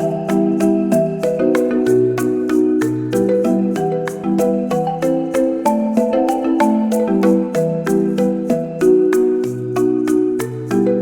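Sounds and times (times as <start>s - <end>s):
marimba-like melody: 0.0s - 11.0s.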